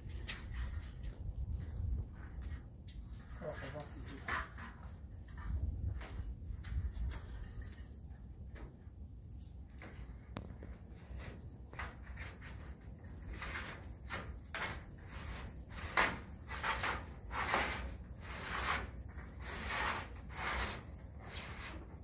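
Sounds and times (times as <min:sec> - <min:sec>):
scraping on sheet-metal roof: 0:02.2 - 0:22.0.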